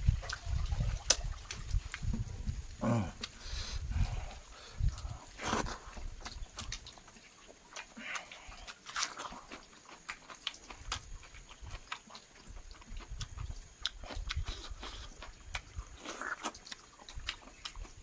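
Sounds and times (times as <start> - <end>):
chewing chicken: 0.0 - 18.0.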